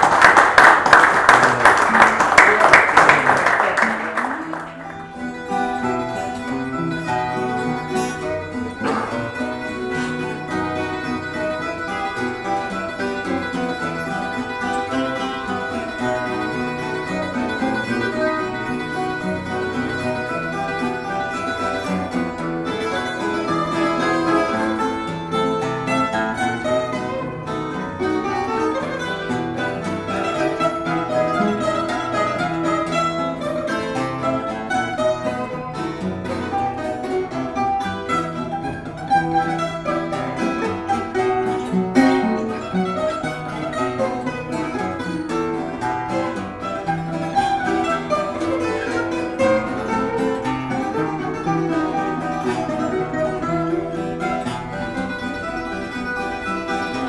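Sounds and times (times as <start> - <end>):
plucked guitar ensemble: 0.0 - 57.0.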